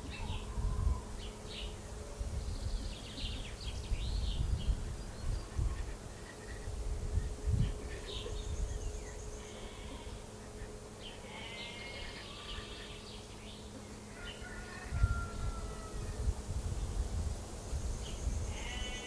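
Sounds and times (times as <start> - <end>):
small birds chirping and twittering: 0.0 - 15.5, 17.7 - 19.0.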